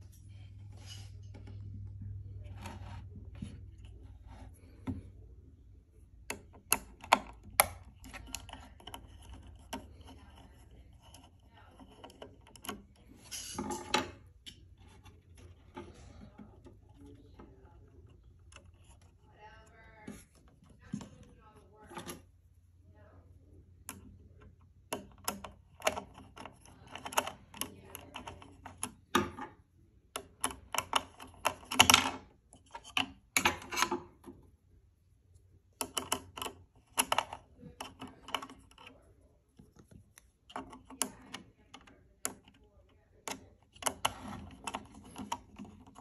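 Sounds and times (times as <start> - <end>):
wires tapping on metal and plastic: 0.0 - 22.5, 23.4 - 34.7, 35.4 - 46.0.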